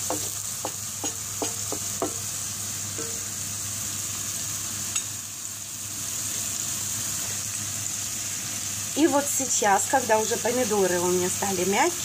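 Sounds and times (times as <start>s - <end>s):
onion and tomato frying: 0.0s - 12.0s.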